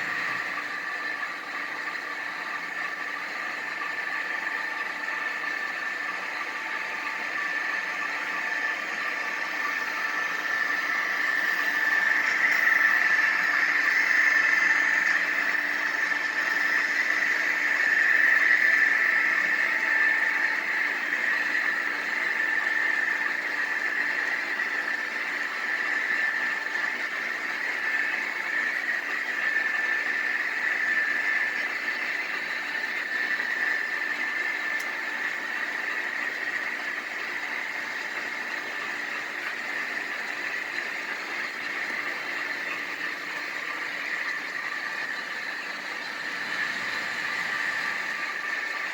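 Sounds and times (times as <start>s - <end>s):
model locomotive engine sound: 0.0s - 48.9s.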